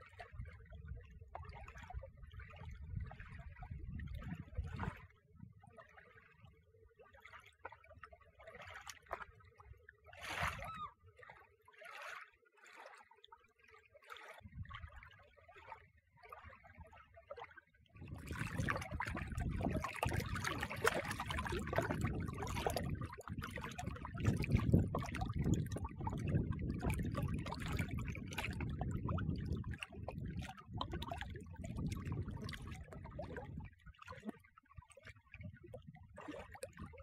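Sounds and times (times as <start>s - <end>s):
water lapping around a rock: 0.0s - 37.0s.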